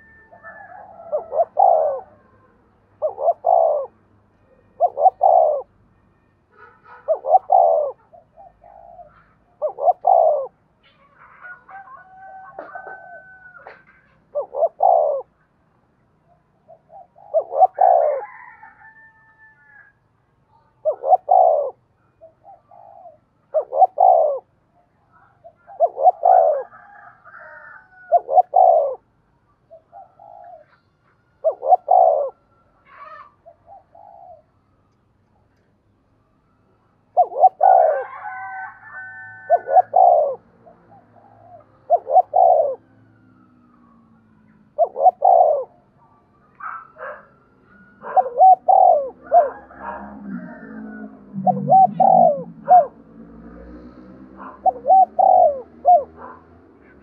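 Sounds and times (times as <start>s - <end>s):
dove cooing: 0.0s - 5.8s, 6.6s - 15.4s, 16.2s - 19.9s, 20.7s - 29.1s, 29.7s - 34.6s, 37.1s - 57.0s.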